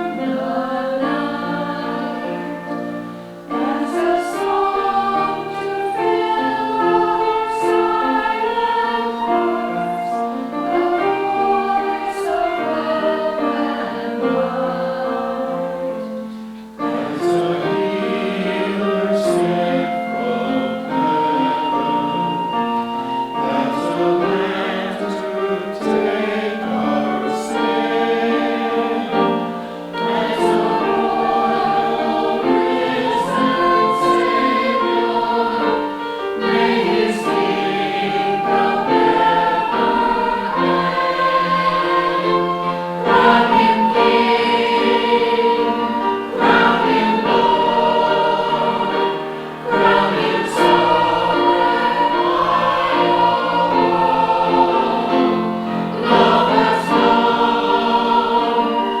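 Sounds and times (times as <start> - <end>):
church choir singing: 0.0 - 59.0.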